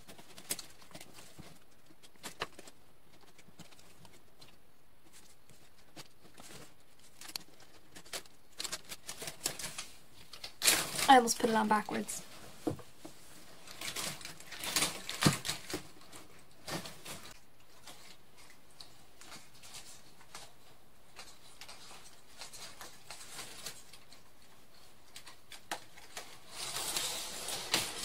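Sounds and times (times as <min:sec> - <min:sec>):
wire and plastic rustling: 0:00.0 - 0:28.0.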